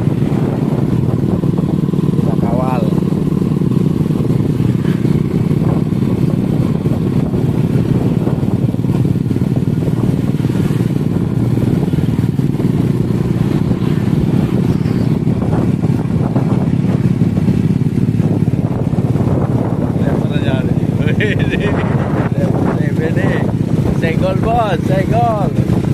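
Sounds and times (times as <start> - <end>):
motorcycle engines droning: 0.0 - 25.9.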